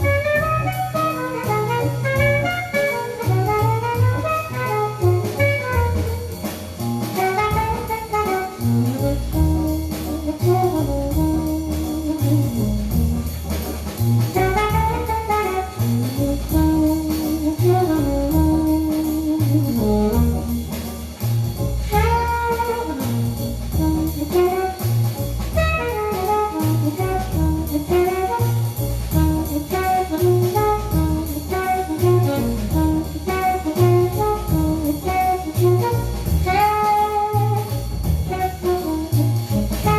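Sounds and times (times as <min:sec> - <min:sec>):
jazz horn melody: 0:00.0 - 0:39.9
steady bass beat: 0:00.0 - 0:39.9.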